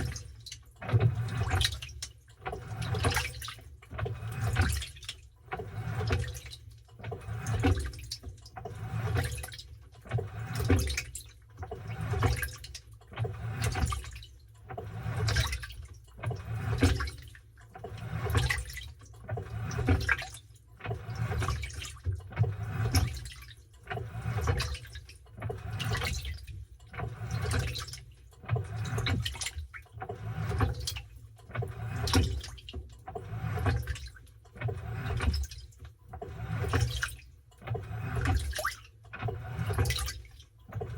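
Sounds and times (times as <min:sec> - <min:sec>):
washing machine water sloshing: 0:00.0 - 0:40.9.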